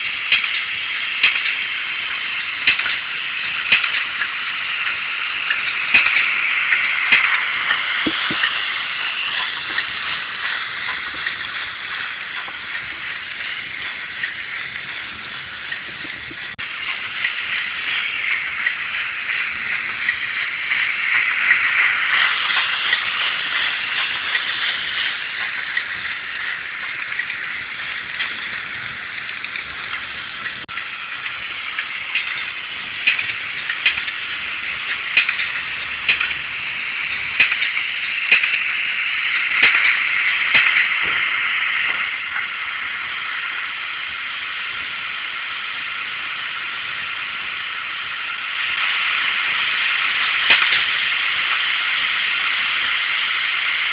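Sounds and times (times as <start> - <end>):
model locomotive sounds from small speaker: 0.0 - 53.9.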